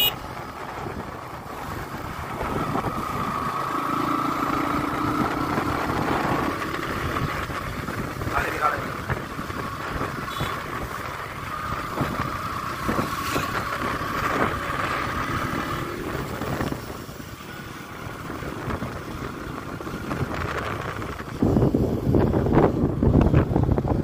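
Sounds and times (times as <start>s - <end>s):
two-wheeler riding on road: 0.0s - 24.0s
wind buffeting microphone: 0.2s - 24.0s.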